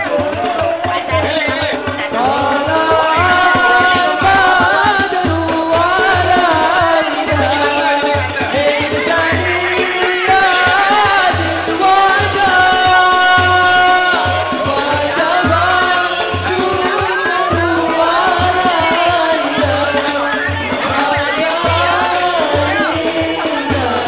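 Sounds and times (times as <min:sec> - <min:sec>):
person singing devotional song: 0:00.0 - 0:24.0.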